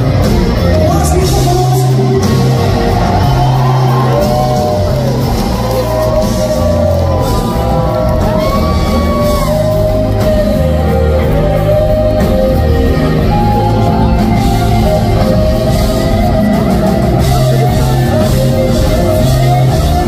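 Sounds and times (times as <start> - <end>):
lead guitar line: 0.0 - 20.0
rock band playing live: 0.0 - 20.0.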